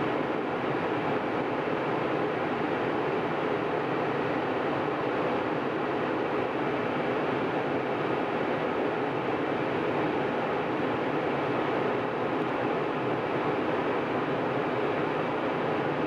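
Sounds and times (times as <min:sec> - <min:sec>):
jet airliner cabin roar: 0:00.0 - 0:16.0.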